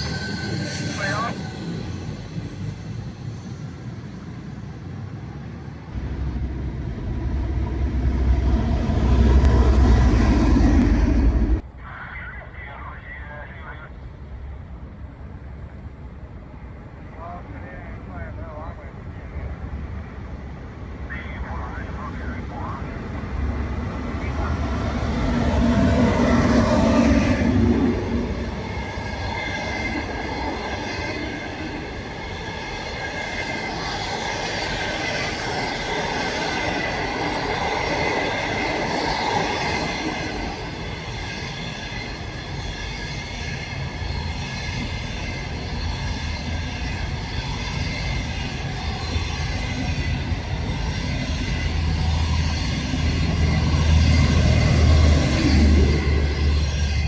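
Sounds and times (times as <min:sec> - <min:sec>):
train wheels rumbling on rails: 0:00.0 - 0:11.6, 0:16.4 - 0:57.0.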